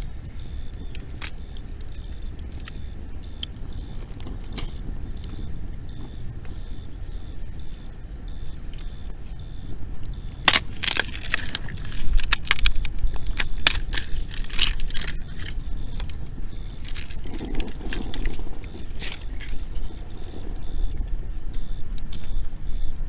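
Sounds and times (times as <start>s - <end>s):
steady low rumble: 0.0s - 23.0s
wood fire crackling and popping: 0.0s - 23.0s.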